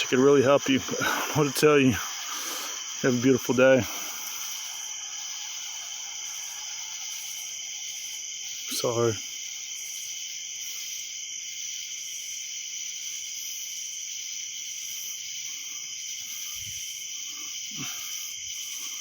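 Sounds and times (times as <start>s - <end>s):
insect trill: 0.0s - 19.0s
pulsed insect chirps: 0.0s - 19.0s.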